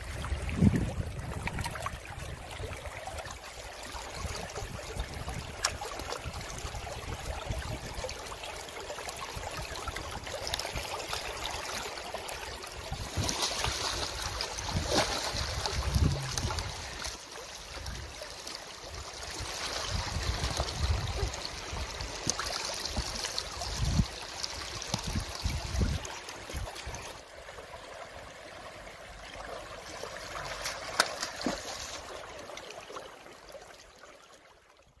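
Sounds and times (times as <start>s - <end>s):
river water splashing: 1.3s - 28.0s, 29.4s - 34.4s.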